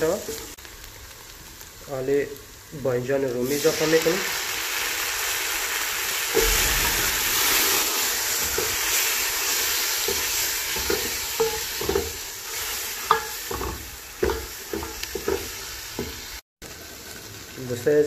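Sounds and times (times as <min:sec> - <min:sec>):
tomato sizzling in hot oil: 0:00.0 - 0:18.0.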